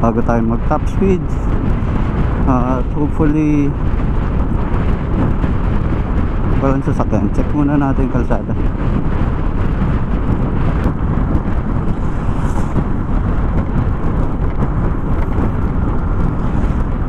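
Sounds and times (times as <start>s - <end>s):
road noise: 0.0s - 17.0s
wind rush: 0.0s - 17.0s.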